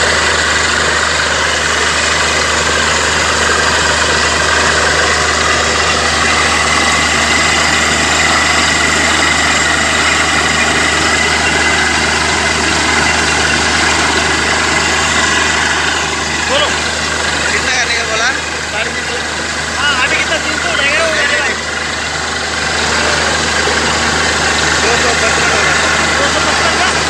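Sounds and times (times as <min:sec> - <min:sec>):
drilling rig engine running: 0:00.0 - 0:27.0.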